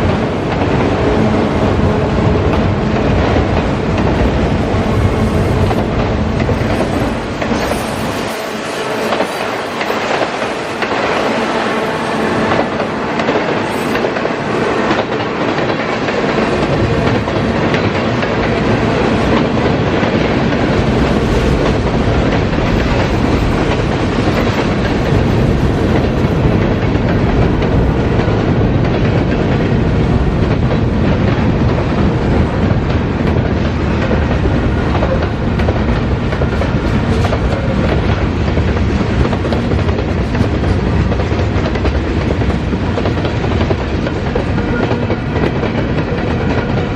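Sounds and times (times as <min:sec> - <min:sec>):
clickety-clack over rail joints: 0:00.0 - 0:46.9
freight train wheels rumbling on rails: 0:00.0 - 0:46.9.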